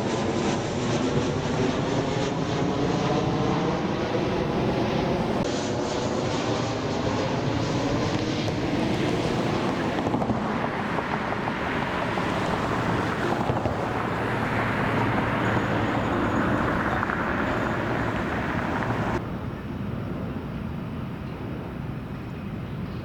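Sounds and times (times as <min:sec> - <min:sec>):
wind buffeting microphone: 0:00.0 - 0:05.5, 0:07.0 - 0:23.0
distant traffic rumble: 0:00.0 - 0:23.0.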